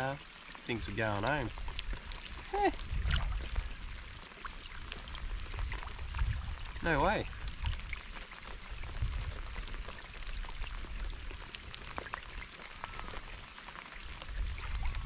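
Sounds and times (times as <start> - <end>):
rain falling on water: 0.0 - 15.0.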